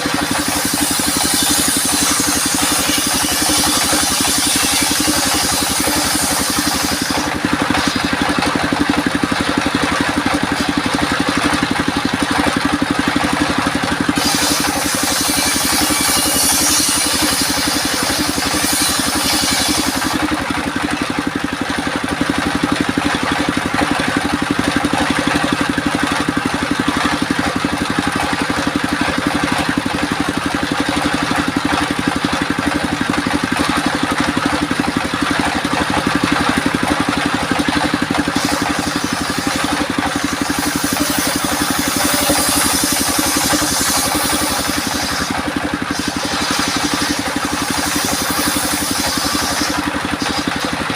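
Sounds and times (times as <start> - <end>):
circular saw running: 0.0 - 50.9
saw blade cutting wood: 0.0 - 50.9.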